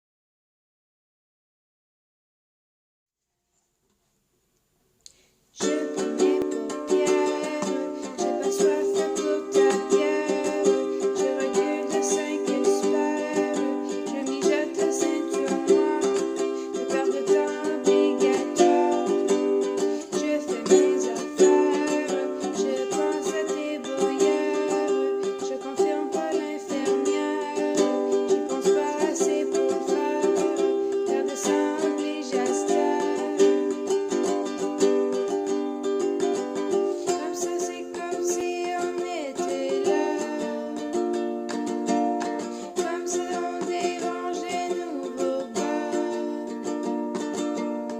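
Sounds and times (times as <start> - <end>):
ukulele playing: 5.6 - 47.9.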